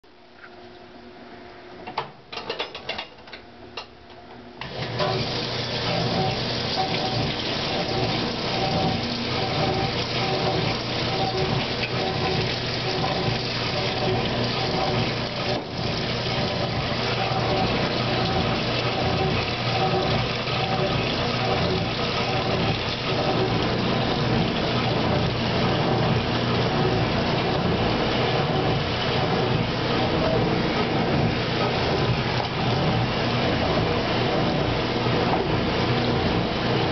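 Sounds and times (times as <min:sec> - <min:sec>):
water rushing into tub: 0:04.6 - 0:36.9.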